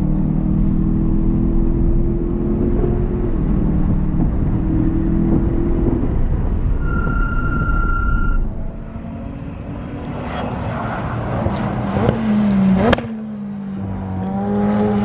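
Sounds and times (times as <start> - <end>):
car engine running hard: 0.0 - 15.0
wind and road noise: 0.0 - 15.0.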